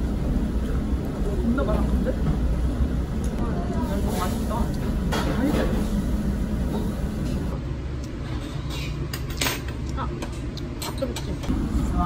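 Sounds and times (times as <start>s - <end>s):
steady low hum: 0.0s - 10.8s, 11.4s - 12.0s.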